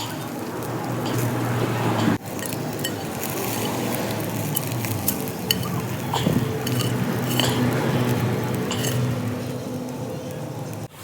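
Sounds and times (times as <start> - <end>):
utensil clinking against pot: 0.0 - 9.6.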